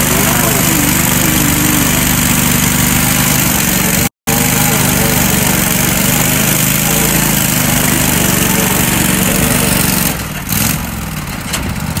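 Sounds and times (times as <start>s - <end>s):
mower engine running hard: 0.0s - 12.0s.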